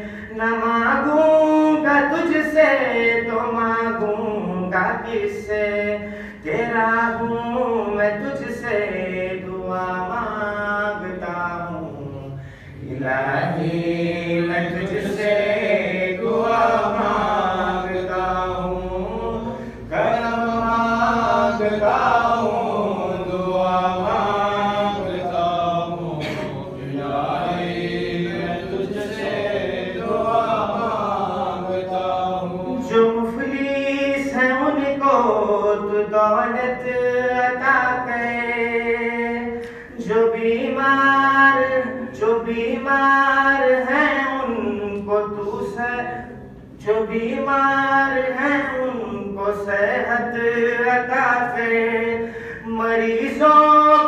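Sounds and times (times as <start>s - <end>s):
man chanting a lament: 0.0s - 54.0s.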